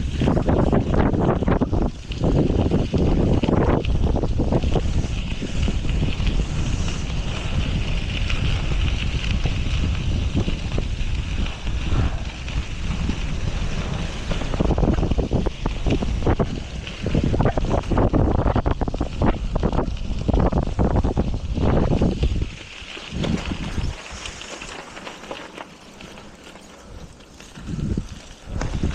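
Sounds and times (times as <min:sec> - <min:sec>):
wind buffeting microphone: 0:00.0 - 0:25.1, 0:26.0 - 0:28.9.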